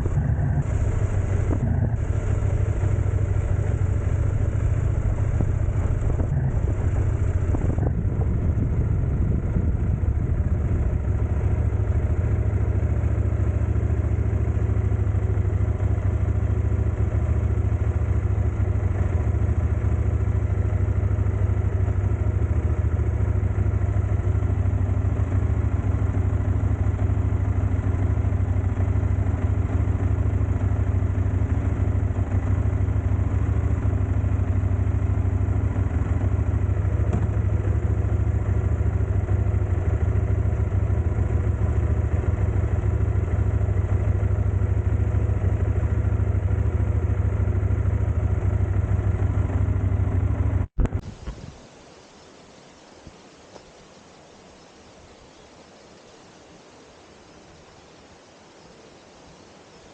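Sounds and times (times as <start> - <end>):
vehicle engine rumbling: 0.0 - 51.6.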